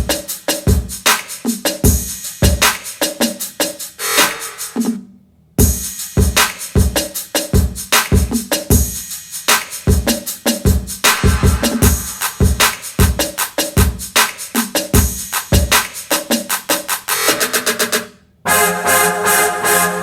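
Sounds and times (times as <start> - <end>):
drum-machine beat: 0.0 - 5.0, 5.6 - 18.1
r and b instrumental music: 0.0 - 5.0, 5.6 - 20.0.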